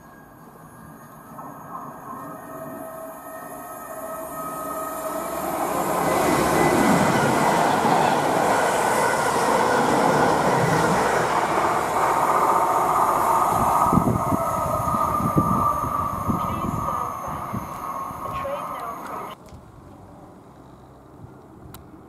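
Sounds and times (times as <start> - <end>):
train high whine: 0.0 - 19.4
wheel and rail noise: 4.2 - 22.0.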